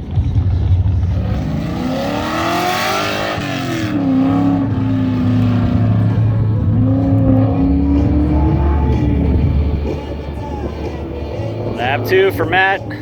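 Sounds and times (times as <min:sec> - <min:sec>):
truck engine accelerating hard: 0:00.0 - 0:13.0.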